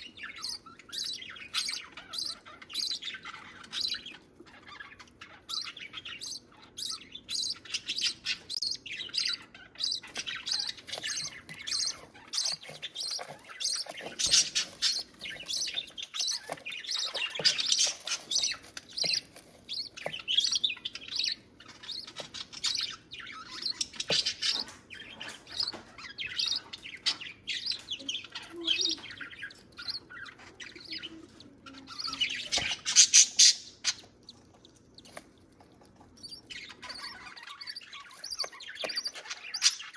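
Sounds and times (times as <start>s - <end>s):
budgies chirping: 0.0s - 39.9s.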